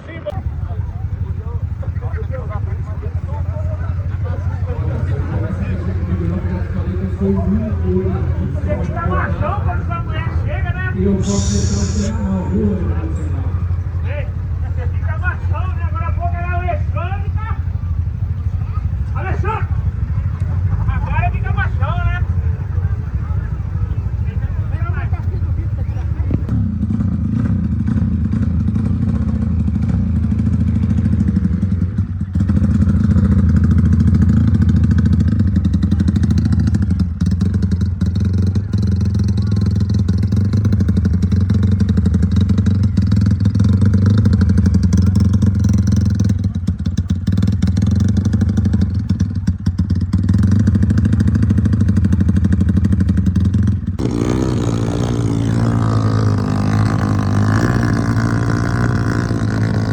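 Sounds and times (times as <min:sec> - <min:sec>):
motorcycle engine running loudly: 0:00.0 - 0:59.9.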